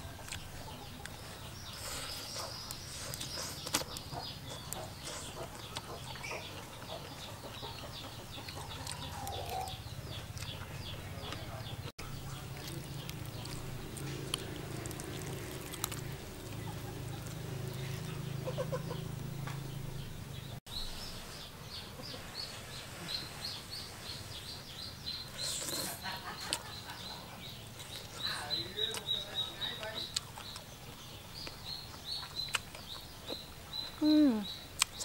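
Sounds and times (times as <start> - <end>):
small bird chirping: 0.0 - 35.0.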